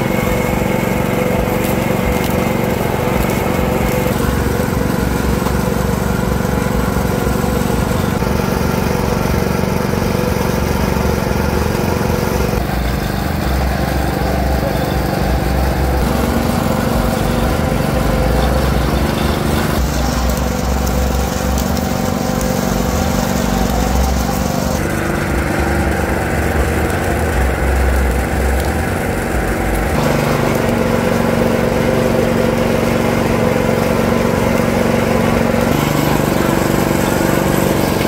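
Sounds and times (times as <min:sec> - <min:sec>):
small engine running under load: 0:00.0 - 0:38.0.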